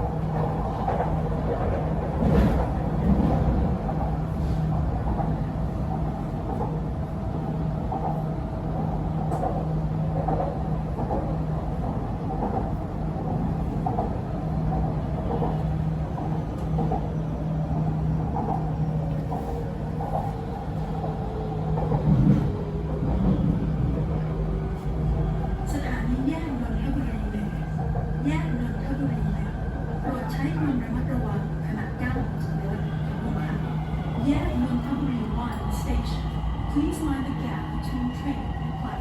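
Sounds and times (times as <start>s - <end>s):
train rumbling inside car: 0.0s - 39.0s.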